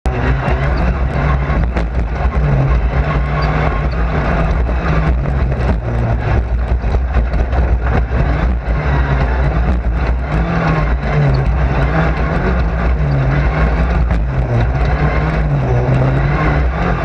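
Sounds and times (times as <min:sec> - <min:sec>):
race car engine rumble: 0:00.0 - 0:17.0.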